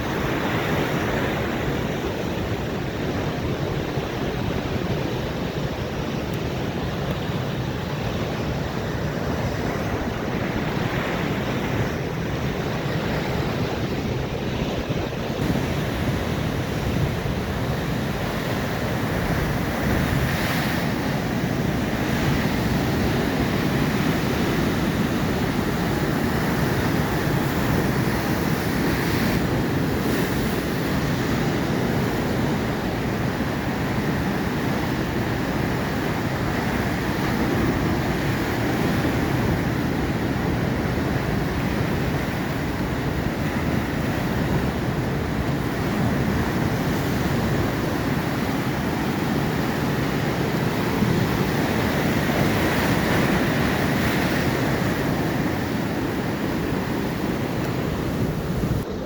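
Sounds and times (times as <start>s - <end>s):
waves breaking: 0.0s - 59.0s
wind on microphone: 0.0s - 59.0s.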